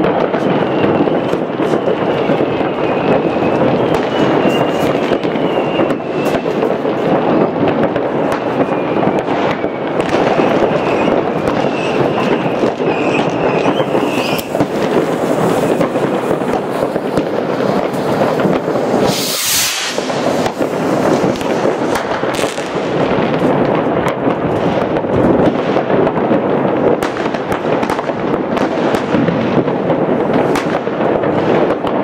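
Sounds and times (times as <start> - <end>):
firework hissing: 0.0 - 27.2
fireworks crackling and banging: 0.0 - 32.0
whistling firework: 0.0 - 32.0.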